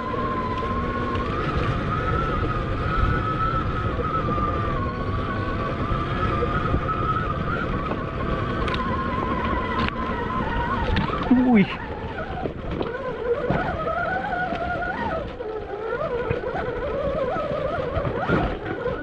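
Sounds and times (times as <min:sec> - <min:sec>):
electric motor whining: 0:00.0 - 0:19.0
wind noise on microphone: 0:00.0 - 0:19.0.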